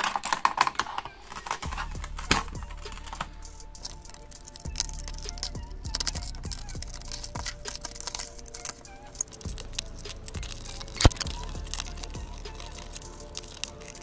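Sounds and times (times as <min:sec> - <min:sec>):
sharp glass crack: 0:00.0 - 0:14.0.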